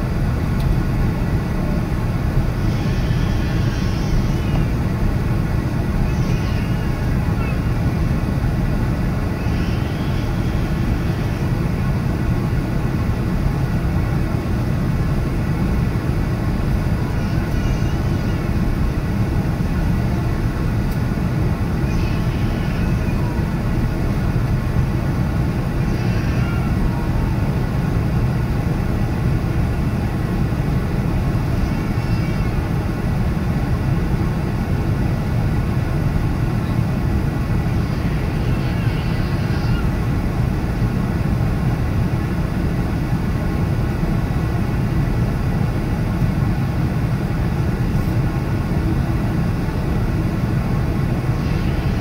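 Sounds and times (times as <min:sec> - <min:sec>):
airplane cabin engine rumble: 0:00.0 - 0:52.0.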